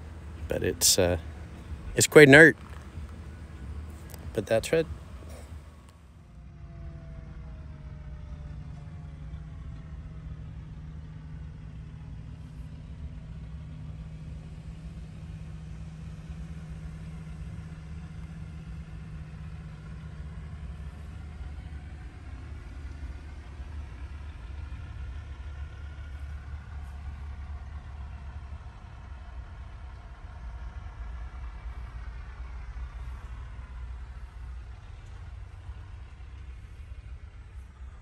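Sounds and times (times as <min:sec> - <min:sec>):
diesel truck engine idling: 0:00.0 - 0:06.8, 0:07.5 - 0:38.0.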